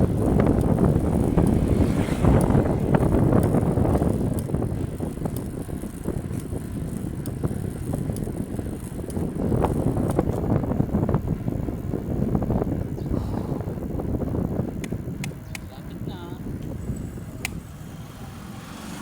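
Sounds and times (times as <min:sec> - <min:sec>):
bicycle drivetrain clicks: 0:00.0 - 0:19.0
bicycle tyres rumbling: 0:00.0 - 0:19.0
wind on microphone: 0:00.0 - 0:19.0.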